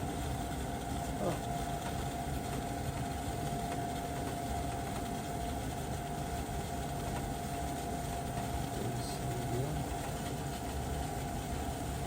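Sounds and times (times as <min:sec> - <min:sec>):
furnace inducer motor humming: 0:00.0 - 0:12.0.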